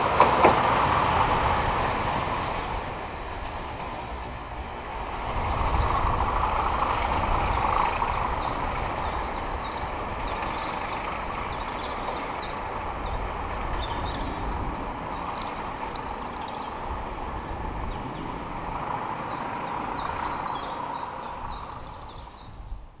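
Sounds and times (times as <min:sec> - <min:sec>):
train engine and wheel rumble: 0:00.0 - 0:23.0.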